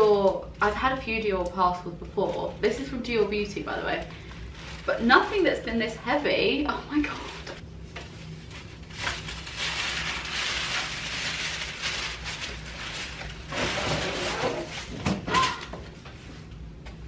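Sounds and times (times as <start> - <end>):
paper bag rustling and crinkling: 2.2 - 16.3.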